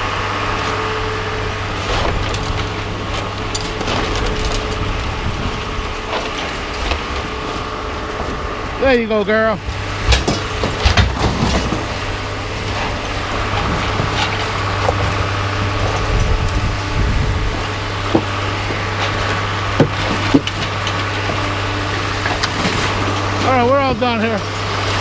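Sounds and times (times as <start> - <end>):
broom scraping truck bed: 0.0 - 25.0
low engine hum: 0.0 - 25.0.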